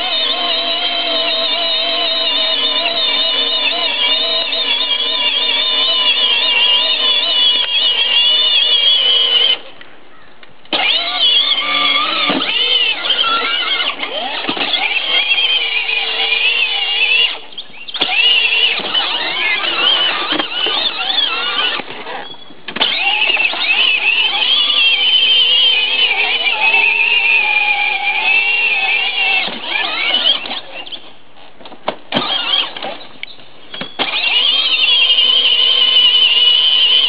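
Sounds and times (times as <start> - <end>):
toy truck electric motor whining: 0.0 - 9.7, 10.7 - 31.0, 32.1 - 37.0
wheels churning through mud: 0.0 - 9.8, 10.7 - 37.0.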